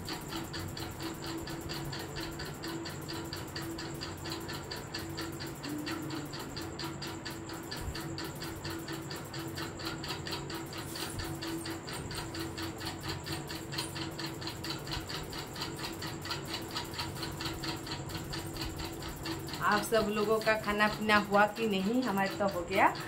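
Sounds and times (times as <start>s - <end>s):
rapid mechanical ticking: 0.0s - 23.0s
steady low hum: 0.0s - 23.0s.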